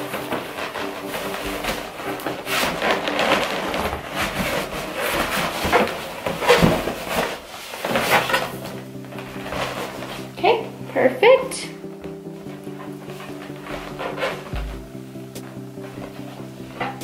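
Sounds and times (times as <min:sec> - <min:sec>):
balloons rubbing and squeaking: 0:00.0 - 0:10.7, 0:12.4 - 0:17.0.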